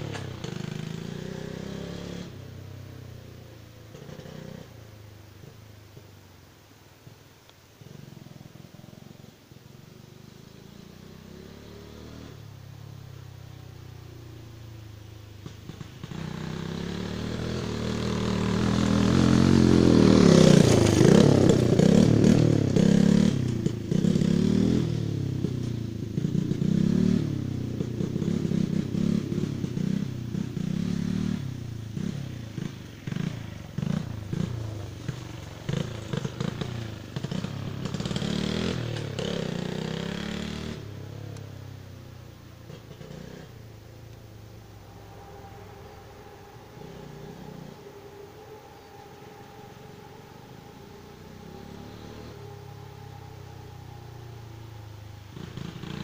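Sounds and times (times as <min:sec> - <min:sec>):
motorcycle engine revving: 0:00.0 - 0:06.2, 0:07.8 - 0:56.0.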